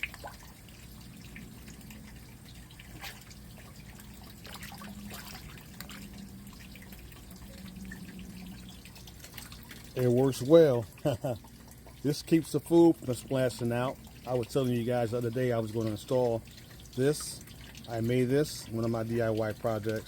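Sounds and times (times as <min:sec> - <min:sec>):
water dripping and trickling: 0:00.0 - 0:20.0.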